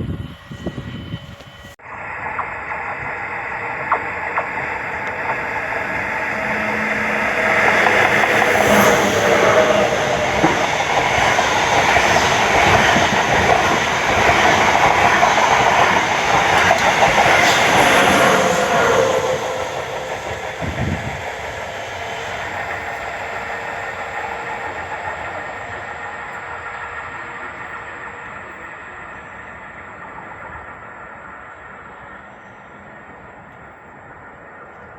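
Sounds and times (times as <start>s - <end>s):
train rumbling past: 0.0s - 34.9s.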